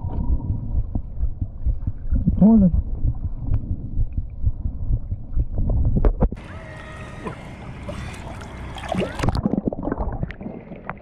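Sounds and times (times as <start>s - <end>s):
water sloshing and gurgling: 0.0s - 11.0s.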